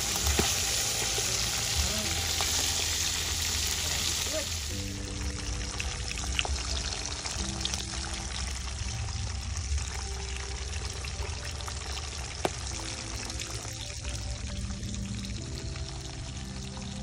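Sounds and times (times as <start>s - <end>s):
food sizzling in hot oil: 0.0s - 17.0s
soft background music: 0.0s - 17.0s.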